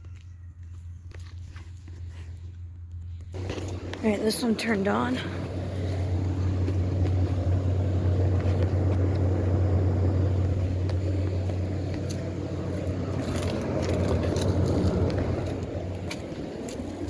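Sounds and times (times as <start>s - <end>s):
compressor hum: 0.0s - 17.0s
fan rushing: 2.6s - 17.0s.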